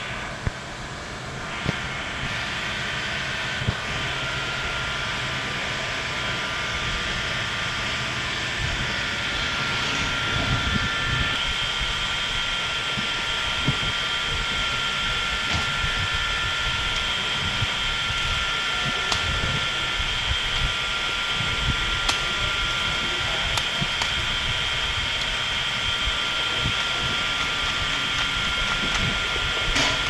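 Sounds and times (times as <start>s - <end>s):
droning background noise: 0.0s - 30.0s
faint high whining tones: 0.0s - 30.0s.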